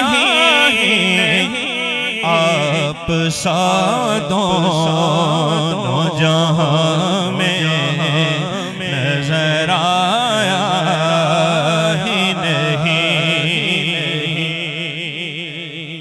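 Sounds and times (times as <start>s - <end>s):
man singing melismatic line: 0.0s - 15.6s.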